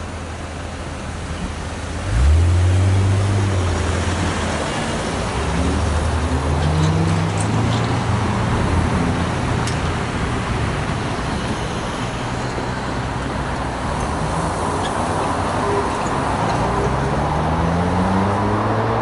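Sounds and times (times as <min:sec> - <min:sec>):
car engines accelerating: 0:00.0 - 0:19.0
steady traffic and tyre noise: 0:00.0 - 0:19.0.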